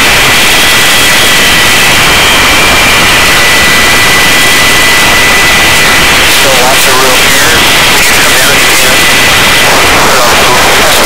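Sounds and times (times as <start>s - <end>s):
helicopter turbine whine: 0.0s - 11.0s
rotor and wind rush: 0.0s - 11.0s.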